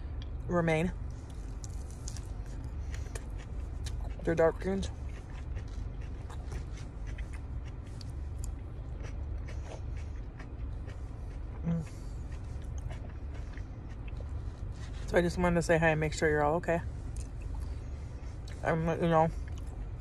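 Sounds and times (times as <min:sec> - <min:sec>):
steady low rumble: 0:00.0 - 0:20.0
chewing salad greens: 0:01.0 - 0:15.5, 0:16.8 - 0:20.0.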